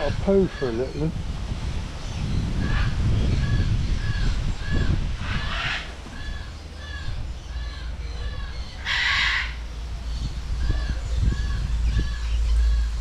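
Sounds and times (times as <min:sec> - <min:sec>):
bird squawking: 0:00.0 - 0:01.1, 0:02.6 - 0:13.0
bird chirping: 0:00.0 - 0:01.2, 0:02.0 - 0:13.0.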